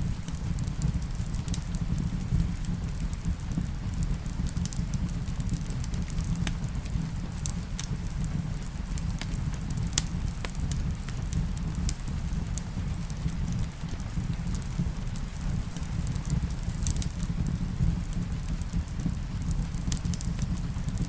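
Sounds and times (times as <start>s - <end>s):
faint rain pattering: 0.0s - 21.0s
steady low rumble: 0.0s - 21.0s
wood fire crackling and popping: 0.0s - 21.0s.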